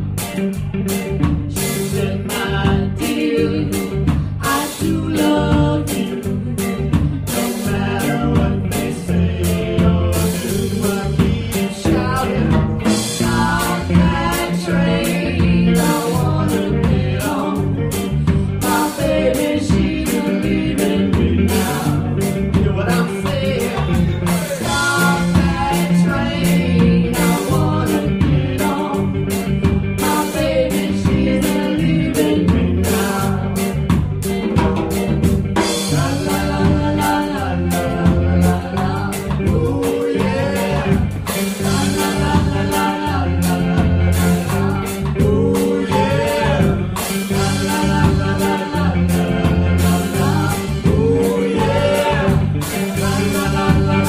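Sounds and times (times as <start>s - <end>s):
bass line: 0.0s - 54.0s
drum kit: 0.0s - 54.0s
electric guitar: 0.0s - 54.0s
woman singing: 1.5s - 33.7s, 35.6s - 54.0s.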